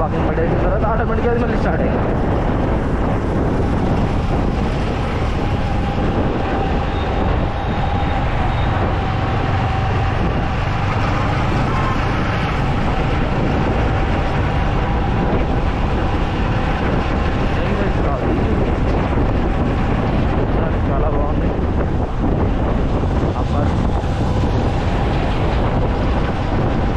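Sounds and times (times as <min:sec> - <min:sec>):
motorcycle engine and tyres rumbling: 0:00.0 - 0:26.9
wind on microphone: 0:00.0 - 0:26.9.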